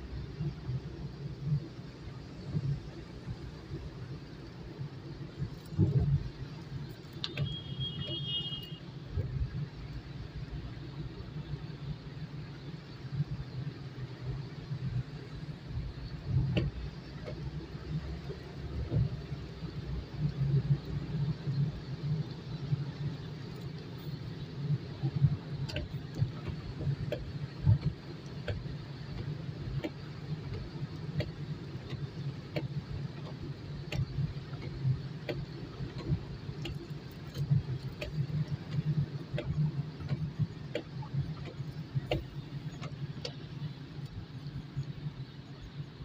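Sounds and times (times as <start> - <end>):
car road and engine noise: 0.0 - 46.0
raindrops ticking on windshield: 0.0 - 46.0.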